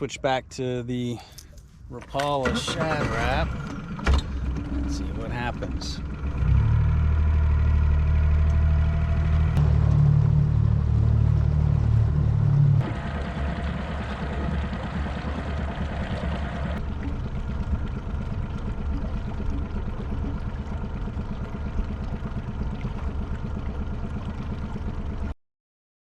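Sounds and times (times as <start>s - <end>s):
boat motor humming: 0.0s - 25.4s.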